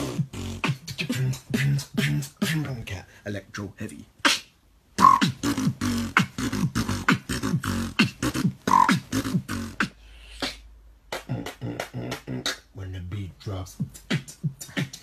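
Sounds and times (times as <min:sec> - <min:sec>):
person beatboxing: 0:00.0 - 0:03.1, 0:04.0 - 0:15.0.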